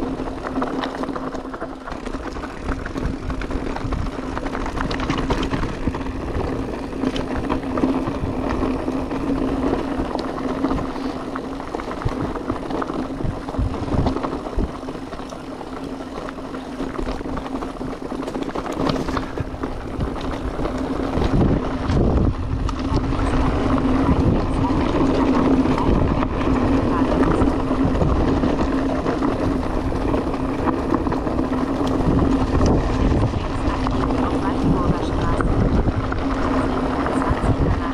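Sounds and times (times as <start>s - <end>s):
bike clicks and knocks: 0.0s - 37.2s
electric motor hum: 0.0s - 37.9s
tyres rolling over ground: 0.0s - 37.9s.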